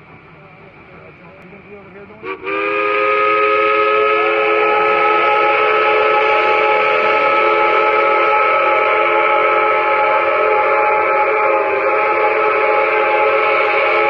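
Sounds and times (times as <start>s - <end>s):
steam whistle chord blast: 2.2s - 14.0s.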